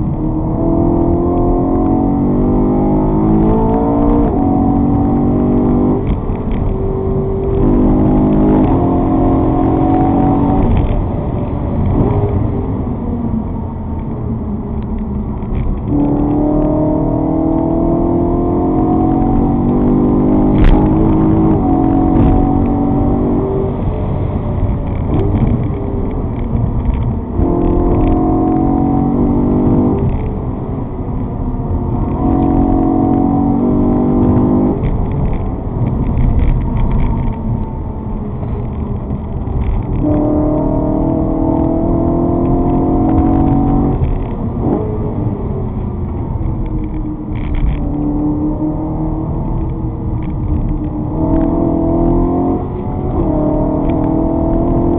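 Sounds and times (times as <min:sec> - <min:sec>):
vehicle engine revving: 0:00.0 - 0:12.7, 0:14.8 - 0:54.9
road and wind noise: 0:00.0 - 0:54.9.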